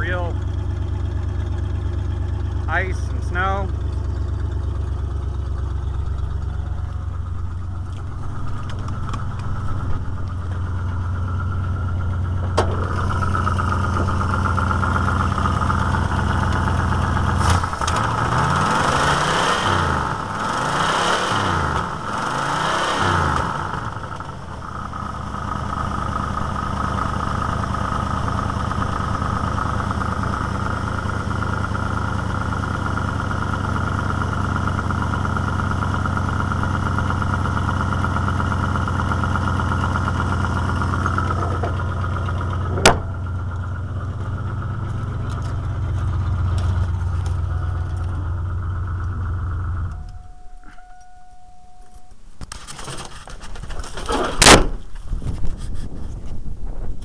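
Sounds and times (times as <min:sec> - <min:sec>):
car engine idling and revving: 0:00.0 - 0:53.8.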